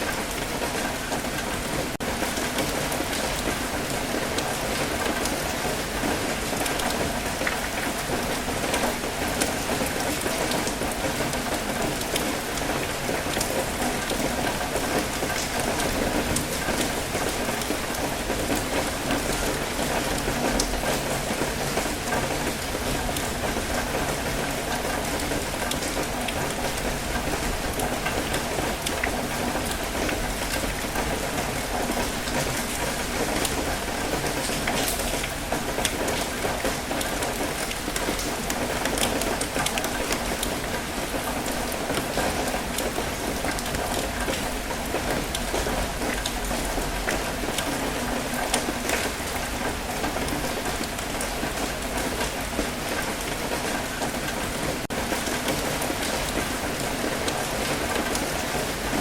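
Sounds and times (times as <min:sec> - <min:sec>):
continuous wash of water: 0:00.0 - 0:59.0
light rain pattering: 0:00.0 - 0:59.0.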